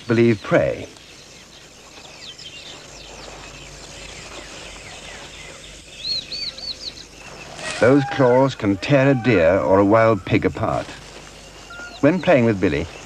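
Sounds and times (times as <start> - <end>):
background hiss: 0.0 - 13.0
bird calls: 0.0 - 13.0.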